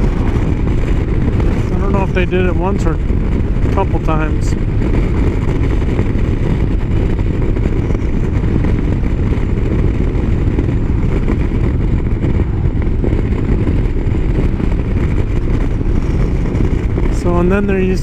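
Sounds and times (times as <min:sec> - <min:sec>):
motorcycle engine at highway speed: 0:00.0 - 0:18.0
wind rushing: 0:00.0 - 0:18.0.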